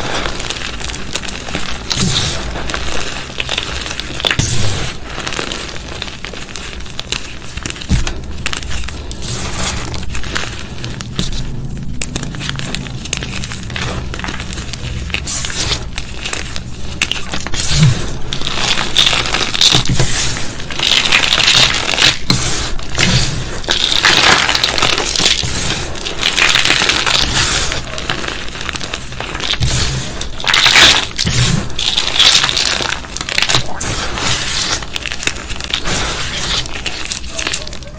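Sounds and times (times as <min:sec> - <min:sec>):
chalk crunching and crackling: 0:00.0 - 0:37.9.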